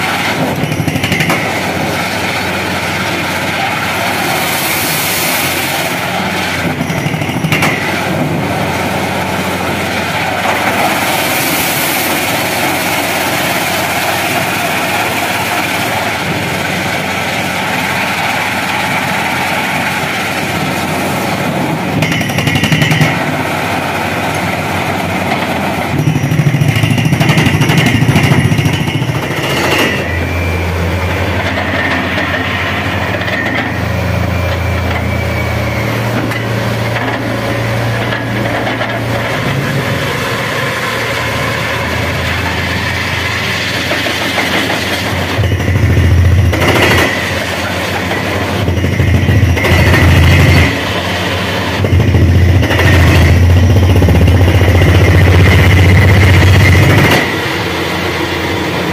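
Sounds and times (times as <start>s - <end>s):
drilling rig machinery noise: 0.0s - 58.9s.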